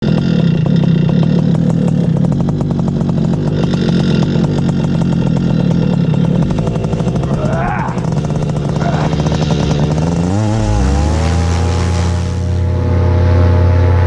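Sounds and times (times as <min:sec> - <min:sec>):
paramotor engine running: 0:00.0 - 0:14.0.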